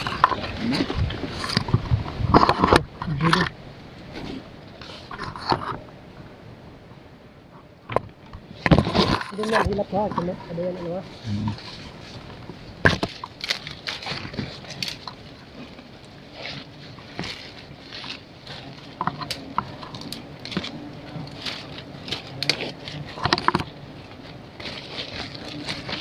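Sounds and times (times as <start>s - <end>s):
leaves and twigs rustling: 0.0s - 6.6s, 7.5s - 26.0s
faint low hum: 0.0s - 26.0s.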